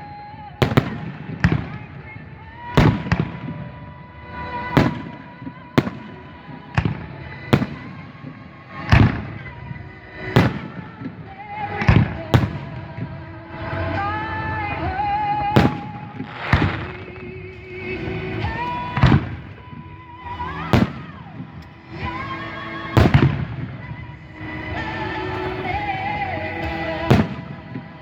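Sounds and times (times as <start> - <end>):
fireworks bangs: 0.0 - 28.0
music: 0.0 - 28.0.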